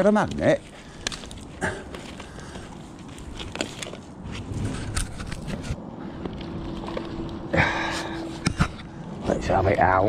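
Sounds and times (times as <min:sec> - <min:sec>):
wet sticks and junk rustling: 0:00.0 - 0:09.4.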